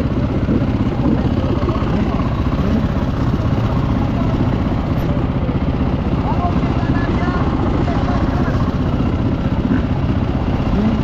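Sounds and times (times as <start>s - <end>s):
faint voices: 0.0s - 11.0s
motorcycle engine running: 0.0s - 11.0s.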